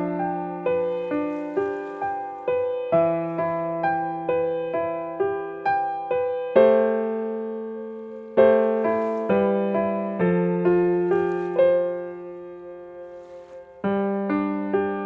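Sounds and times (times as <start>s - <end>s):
slow gentle solo piano: 0.0s - 15.0s.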